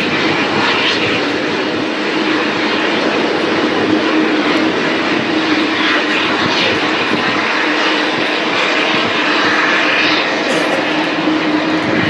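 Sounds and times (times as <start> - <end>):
jet engines taxiing: 0.0 - 12.0.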